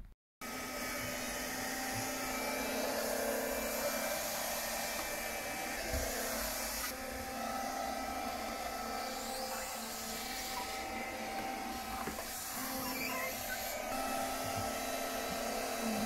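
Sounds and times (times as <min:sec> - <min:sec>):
window vacuum motor whine: 0:00.4 - 0:16.0.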